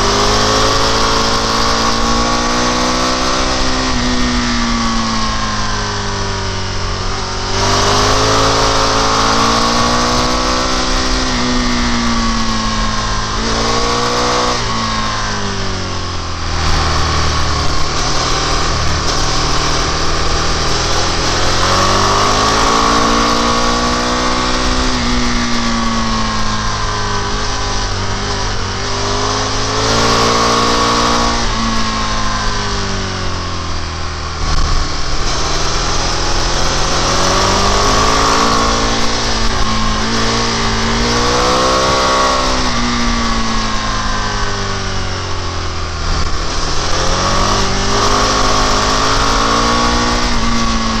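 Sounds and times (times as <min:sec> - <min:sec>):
motorcycle engine accelerating: 0:00.0 - 0:51.0
wind and road noise: 0:00.0 - 0:51.0.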